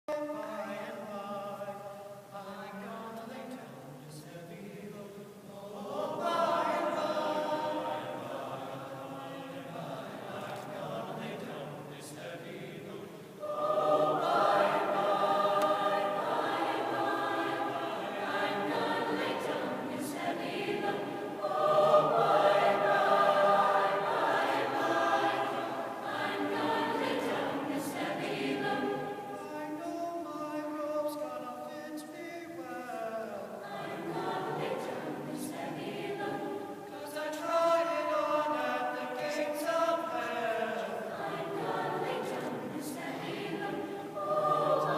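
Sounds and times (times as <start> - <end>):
choir singing sustained chords: 0.4 - 31.2, 33.3 - 44.9.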